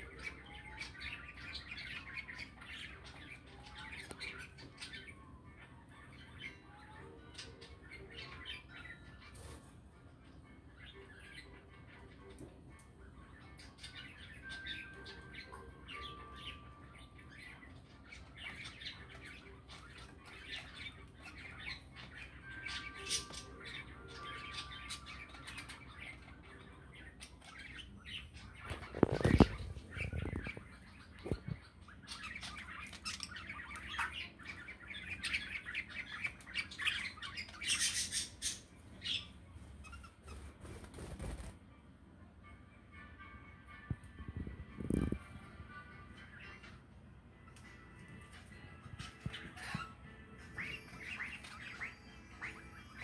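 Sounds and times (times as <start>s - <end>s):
budgerigars chirping and chattering: 0.0s - 41.5s, 44.4s - 53.0s.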